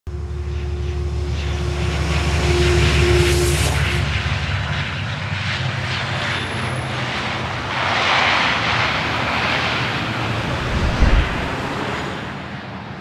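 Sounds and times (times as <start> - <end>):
airliner engine noise: 0.1 - 13.0.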